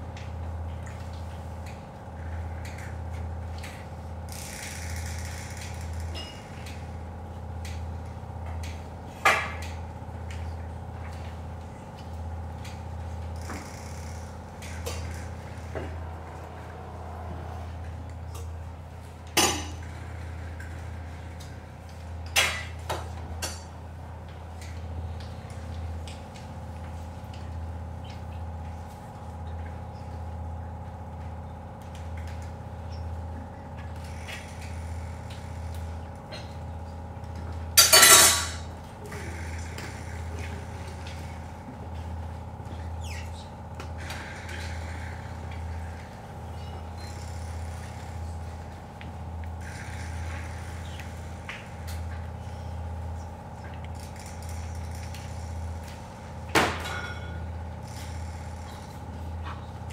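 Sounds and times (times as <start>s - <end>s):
pulsing low electronic hum: 0.0s - 59.9s.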